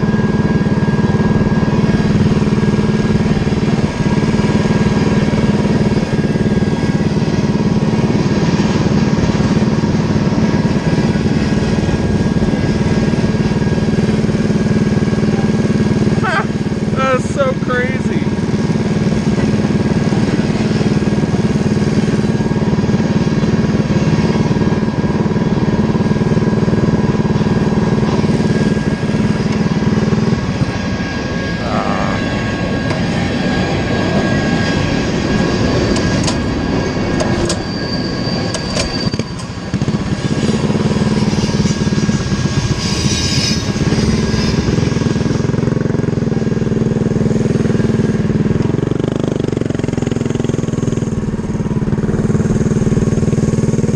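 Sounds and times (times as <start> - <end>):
mini bike engine running: 0.0 - 30.7, 31.6 - 32.2, 39.4 - 53.9.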